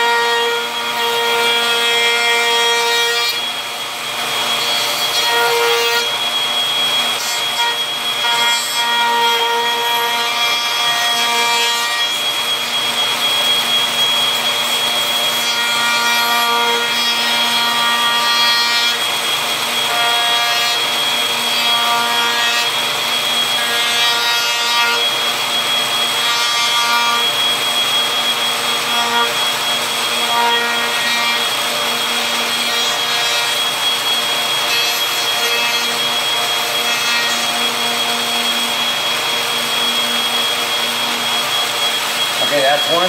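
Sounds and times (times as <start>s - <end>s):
router cutting wood: 0.0s - 43.0s
router whining: 0.0s - 43.0s.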